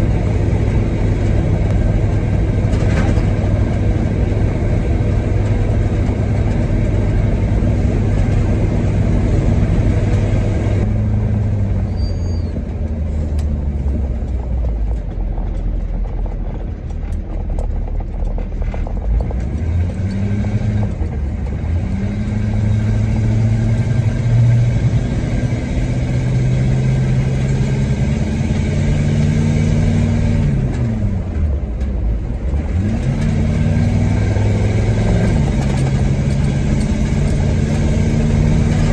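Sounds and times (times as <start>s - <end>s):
truck engine revving: 0.0s - 14.8s, 17.0s - 31.6s, 32.4s - 38.9s.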